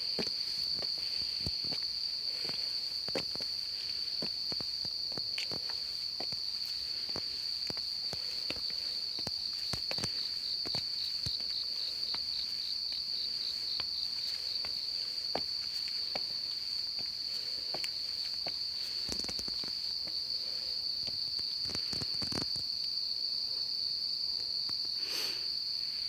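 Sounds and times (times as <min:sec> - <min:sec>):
insect high-pitched trill: 0:00.0 - 0:23.2
insect chirping in pulses: 0:00.0 - 0:26.0.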